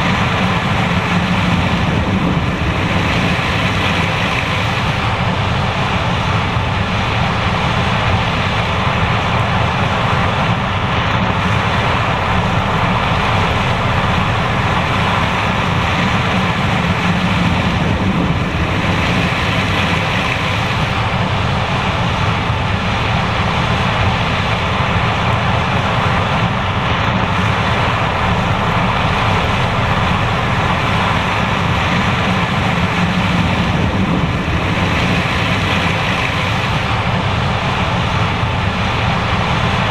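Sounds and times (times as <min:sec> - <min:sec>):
broad rushing noise: 0:00.0 - 0:39.9
combine harvester running: 0:00.0 - 0:39.9.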